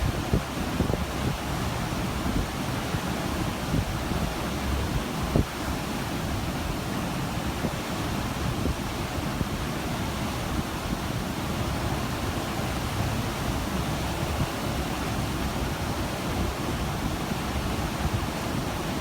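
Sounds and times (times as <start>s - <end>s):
sea and wind rushing: 0.0s - 19.0s.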